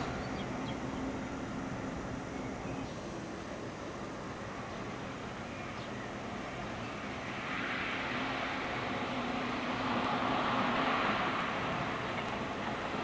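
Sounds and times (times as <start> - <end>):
electric train running on rails: 0.0 - 13.0.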